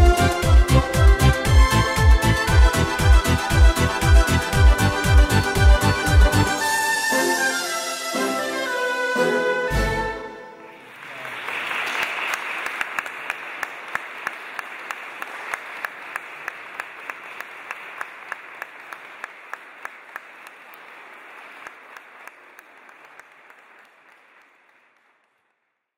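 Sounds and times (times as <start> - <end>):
audience applauding: 0.0 - 6.6, 10.7 - 25.8
rhythmic sharp claps: 0.0 - 6.8, 10.8 - 25.6.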